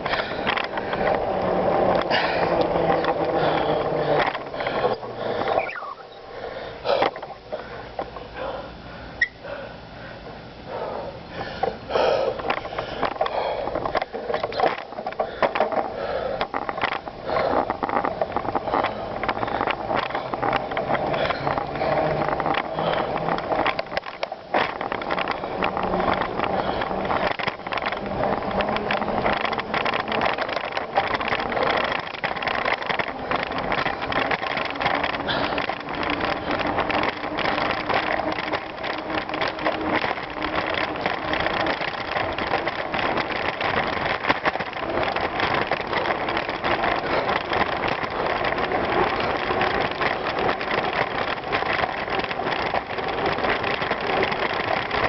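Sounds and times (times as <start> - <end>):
bicycle tyre noise: 0.0 - 55.0
bike rattling and knocking: 0.0 - 55.0.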